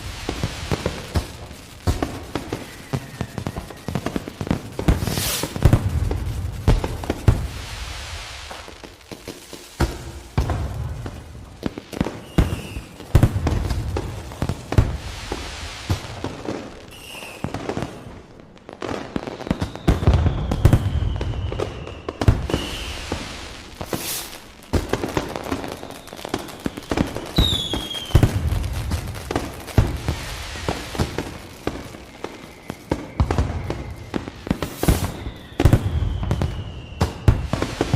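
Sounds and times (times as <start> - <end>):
falling firework whistle: 0.0 - 37.9
fireworks bangs and crackles: 0.0 - 37.9
fireworks low booms: 0.0 - 37.9.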